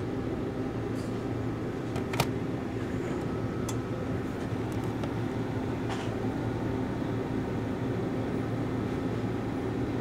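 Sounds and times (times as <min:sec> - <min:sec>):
fan hum: 0:00.0 - 0:10.0.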